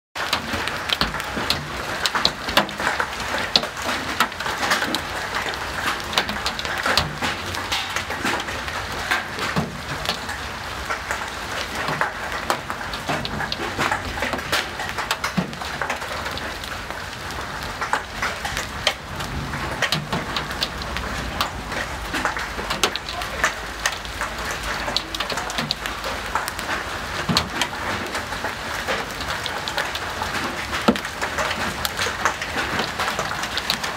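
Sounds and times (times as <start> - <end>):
hailstones pelting: 0.2 - 33.9
rain hissing: 0.2 - 33.9.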